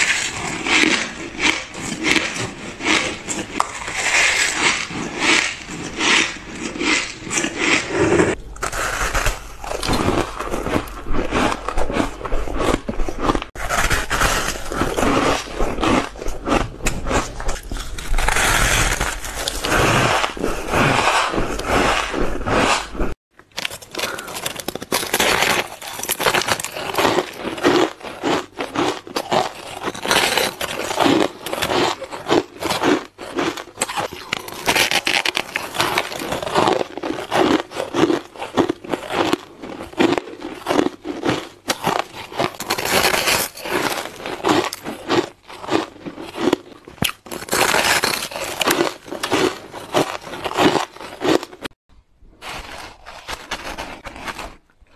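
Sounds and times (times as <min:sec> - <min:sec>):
chewing crunchy ice: 0:00.0 - 0:51.8.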